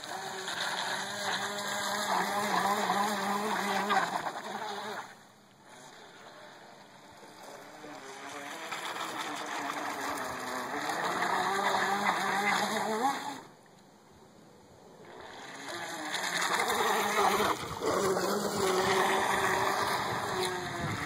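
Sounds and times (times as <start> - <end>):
small boat motor running: 0.0 - 13.7, 14.8 - 21.0
water splashing from wake: 0.0 - 13.7, 14.8 - 21.0.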